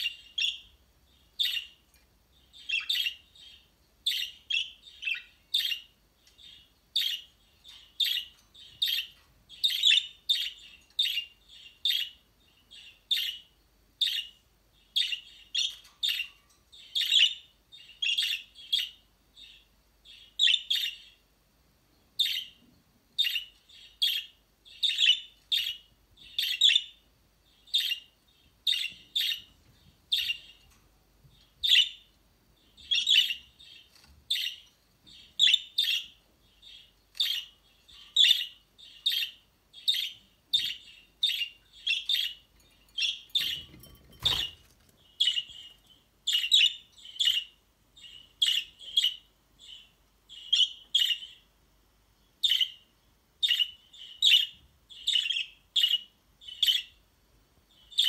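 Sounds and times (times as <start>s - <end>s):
budgerigars chirping: 0.0s - 1.8s, 2.5s - 21.2s, 23.2s - 27.0s, 27.6s - 29.5s, 30.1s - 30.6s, 31.6s - 32.1s, 32.7s - 51.4s, 52.4s - 52.8s, 53.4s - 57.0s.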